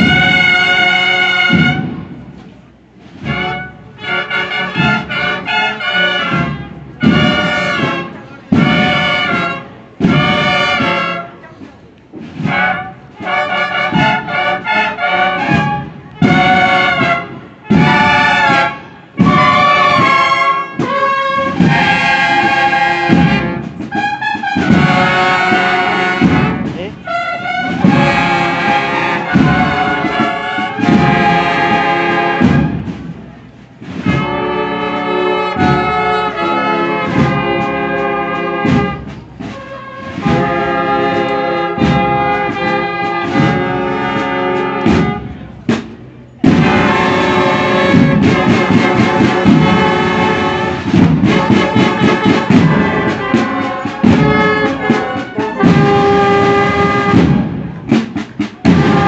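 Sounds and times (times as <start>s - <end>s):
brass band playing a march: 0.0s - 59.0s
snare drums: 0.0s - 59.0s.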